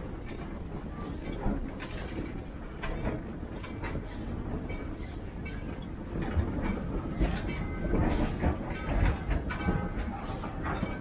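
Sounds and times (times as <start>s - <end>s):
train low rumble: 0.0s - 11.0s
wheels knocking and rattling: 0.0s - 11.0s.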